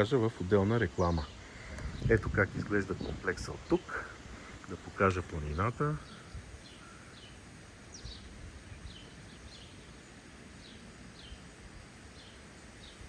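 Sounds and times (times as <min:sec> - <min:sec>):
low outdoor background noise: 0:00.0 - 0:13.0
small songbirds chirping: 0:00.0 - 0:13.0.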